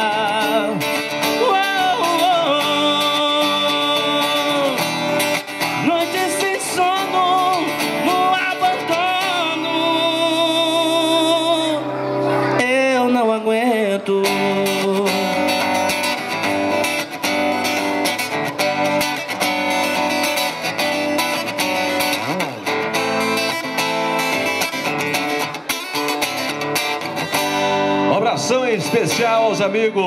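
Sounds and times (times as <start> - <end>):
acoustic guitar strumming and picking: 0.0 - 30.0.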